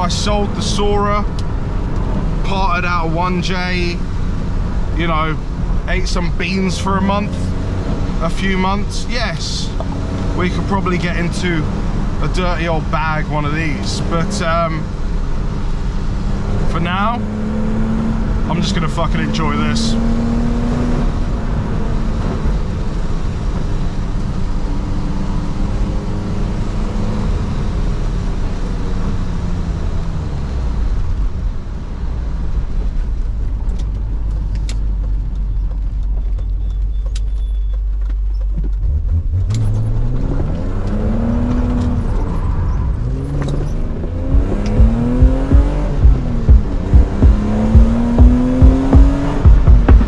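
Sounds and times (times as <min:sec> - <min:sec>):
car engine revving through gear changes: 0:00.0 - 0:31.4, 0:32.3 - 0:50.0.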